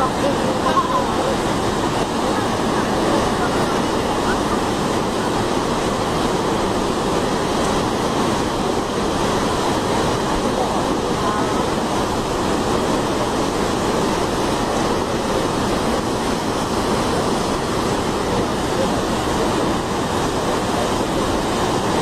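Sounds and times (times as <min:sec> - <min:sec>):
fast-flowing water rushing: 0:00.0 - 0:22.0.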